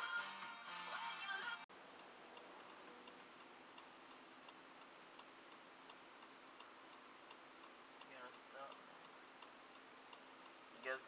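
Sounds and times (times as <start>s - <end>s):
turn signal ticking: 1.7s - 11.0s
low steady hiss: 1.8s - 11.0s.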